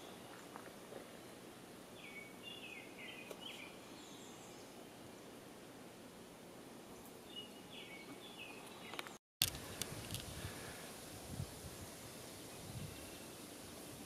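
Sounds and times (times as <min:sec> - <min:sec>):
songbird singing: 0:00.0 - 0:05.5, 0:06.2 - 0:10.8, 0:11.8 - 0:14.0
faint background hiss: 0:00.0 - 0:14.0.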